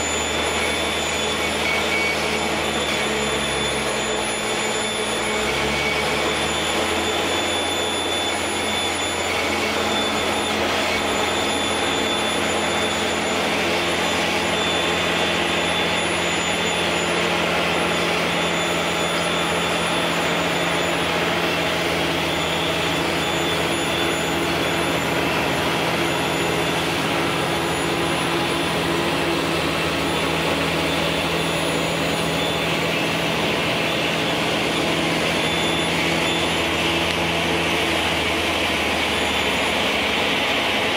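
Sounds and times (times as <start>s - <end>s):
loader wagon unloading grass: 0.0s - 40.9s
tractor diesel engine under load: 0.0s - 40.9s.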